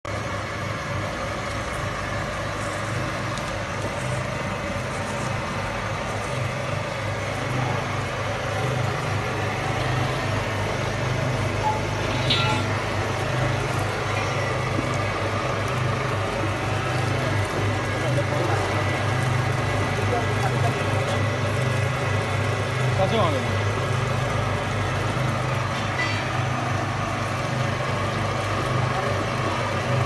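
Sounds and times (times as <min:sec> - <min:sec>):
machine motor humming: 0:00.1 - 0:30.0.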